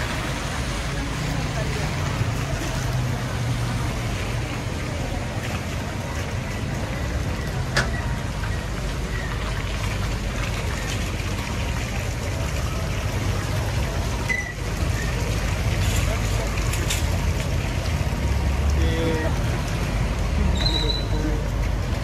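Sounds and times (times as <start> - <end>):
engine rumble of traffic: 0.0 - 22.0
tyres hissing on wet road: 0.0 - 22.0.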